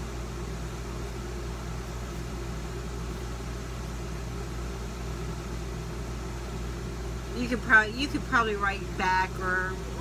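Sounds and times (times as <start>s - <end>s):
machine hum with hiss: 0.0s - 10.0s.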